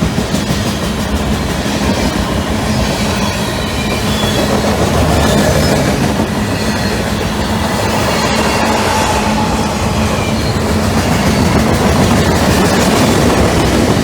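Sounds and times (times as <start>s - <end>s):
steel wheels rumbling on rail: 0.0s - 14.0s.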